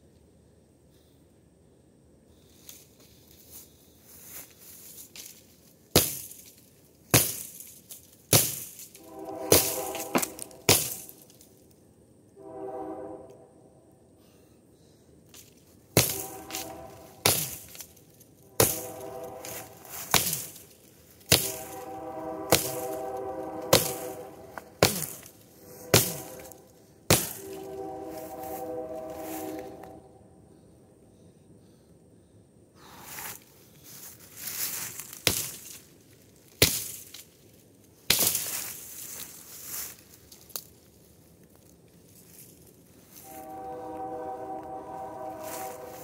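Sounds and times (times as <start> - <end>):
rustling hiss: 2.3 - 11.7, 15.3 - 30.8, 32.8 - 46.0.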